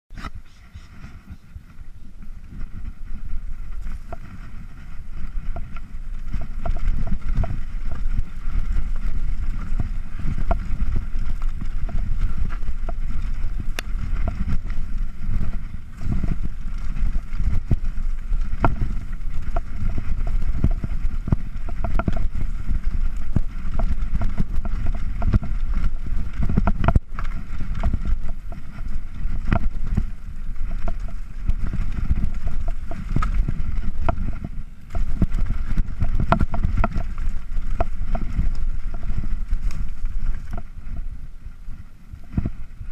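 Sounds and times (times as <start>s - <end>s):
bike rattling over bumps: 0.1s - 42.9s
tyres on dirt: 0.1s - 42.9s
wind rumble on camera: 0.1s - 42.9s.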